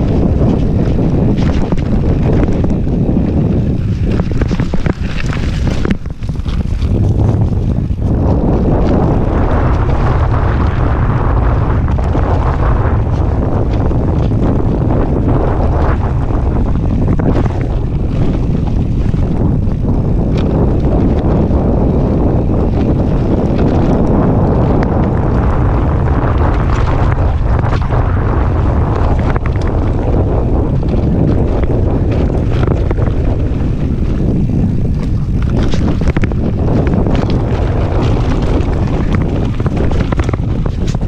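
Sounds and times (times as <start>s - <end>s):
bike knocking and rattling: 0.0s - 41.0s
tyres rumbling on trail: 0.0s - 41.0s
wind buffeting microphone: 0.0s - 41.0s.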